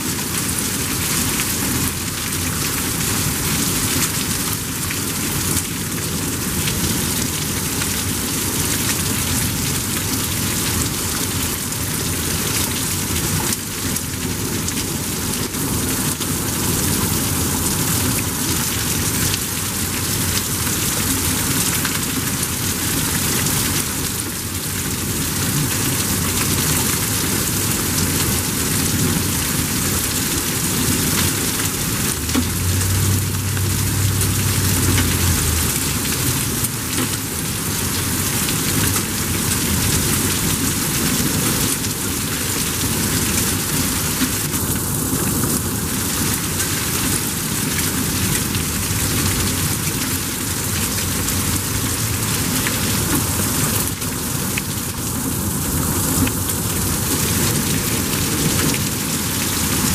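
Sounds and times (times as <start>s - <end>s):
torrential rain on pavement: 0.0s - 59.9s.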